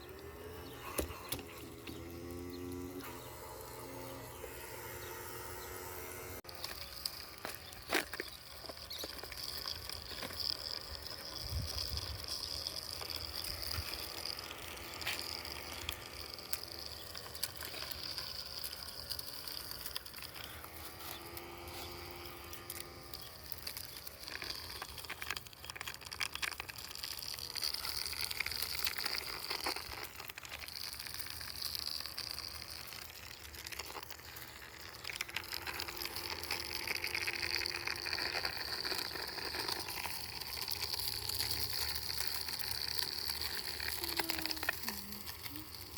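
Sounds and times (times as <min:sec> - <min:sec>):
crackling and ticking: 0:00.0 - 0:45.9
robot vacuum motor whine: 0:00.0 - 0:45.9.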